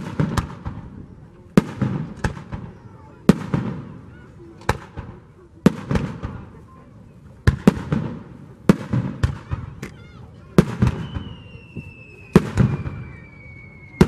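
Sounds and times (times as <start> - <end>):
fireworks booming: 0.0 - 6.6, 7.4 - 14.0.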